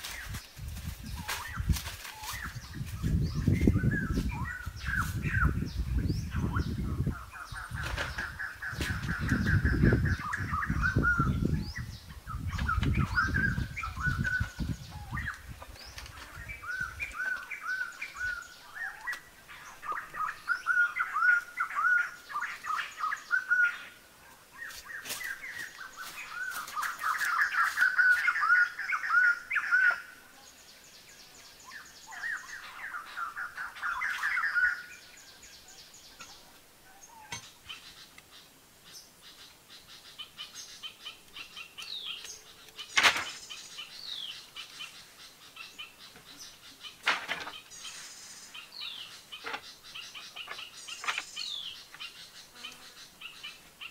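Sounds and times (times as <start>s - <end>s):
songbirds singing: 0.0s - 53.9s.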